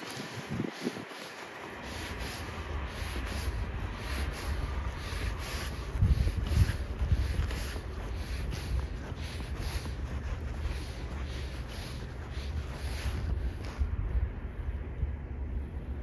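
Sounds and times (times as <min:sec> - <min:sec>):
footsteps crunching in snow: 0:00.0 - 0:13.9
wind buffeting microphone: 0:00.0 - 0:16.0.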